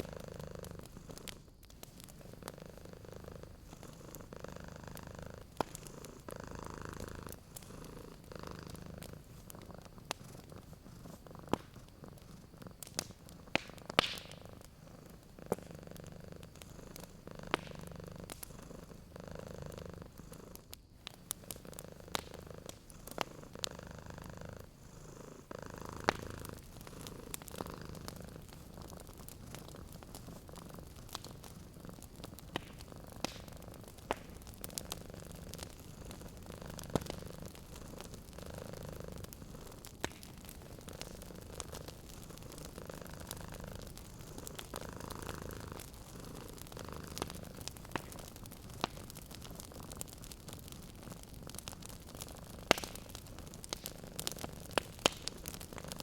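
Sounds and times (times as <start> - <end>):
cat purring: 0.0 - 56.0
wood fire crackling and popping: 0.0 - 56.0.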